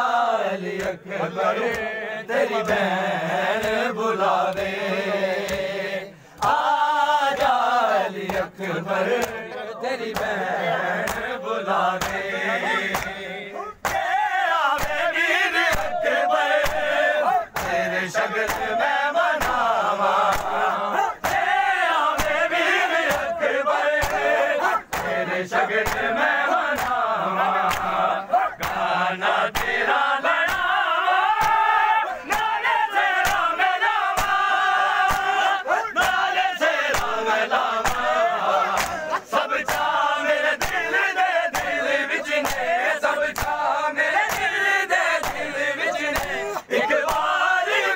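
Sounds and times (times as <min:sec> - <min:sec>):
crowd of men chanting: 0:00.0 - 0:47.9
hands slapping bare chests: 0:00.7 - 0:01.0, 0:01.6 - 0:02.0, 0:02.6 - 0:47.4.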